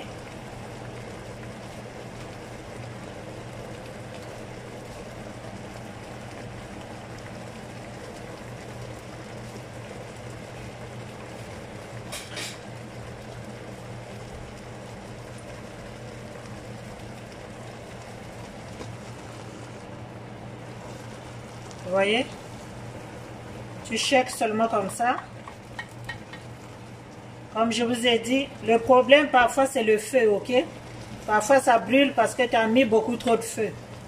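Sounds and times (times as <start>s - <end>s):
pots boiling and bubbling: 0.0s - 34.0s.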